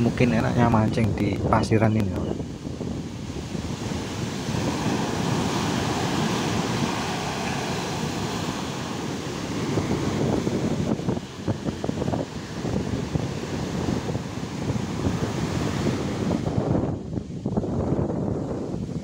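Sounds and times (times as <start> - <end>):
ocean waves breaking: 0.0 - 19.0
wind buffeting microphone: 0.0 - 19.0.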